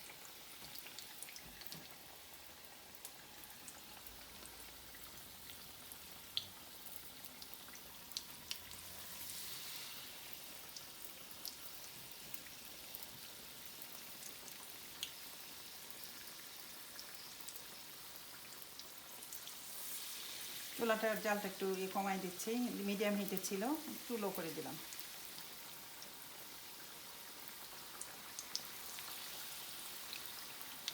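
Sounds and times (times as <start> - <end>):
oil sizzling: 0.0 - 30.9.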